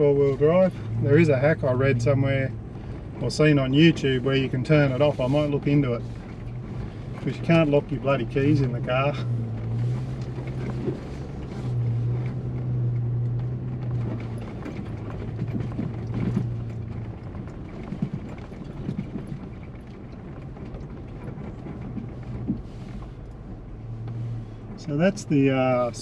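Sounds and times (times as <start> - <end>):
low engine hum: 0.0 - 26.0
knocks and rattles: 2.7 - 25.0.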